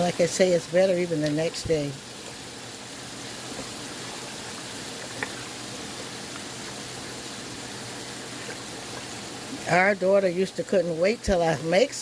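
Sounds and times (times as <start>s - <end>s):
soup simmering with hiss: 0.0s - 12.0s.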